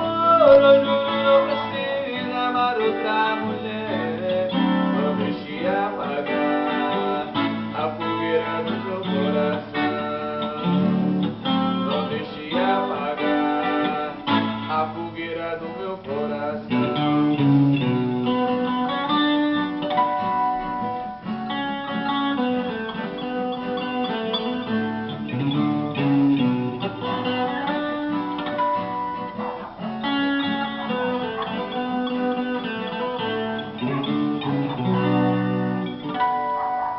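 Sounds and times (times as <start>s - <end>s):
plucked guitar music: 0.0s - 36.9s.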